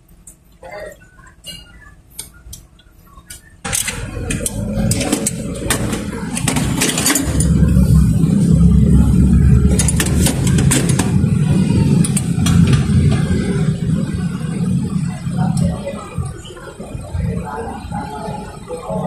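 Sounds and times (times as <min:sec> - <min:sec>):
car engine running: 0:03.7 - 0:19.0.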